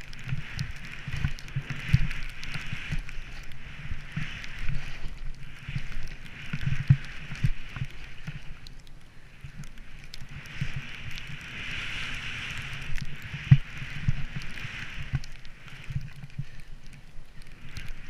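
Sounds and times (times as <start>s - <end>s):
skis rushing through snow: 0.0s - 8.7s, 9.4s - 18.0s.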